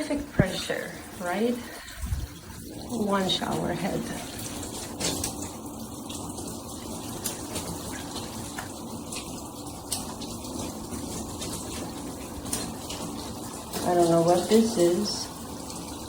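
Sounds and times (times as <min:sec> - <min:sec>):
shower water spraying: 0:00.0 - 0:16.0.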